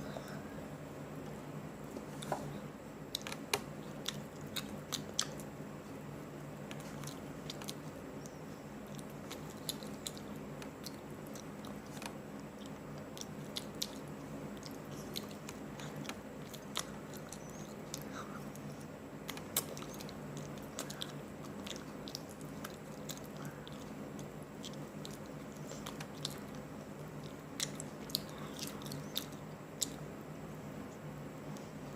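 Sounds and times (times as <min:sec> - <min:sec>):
steady low hum: 0:00.0 - 0:31.9
person chewing crunchy food: 0:02.1 - 0:05.5, 0:06.7 - 0:30.0.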